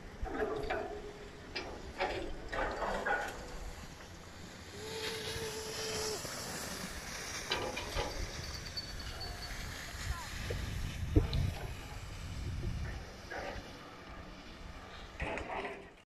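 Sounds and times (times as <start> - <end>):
skis scraping over snow: 0.0 - 16.0.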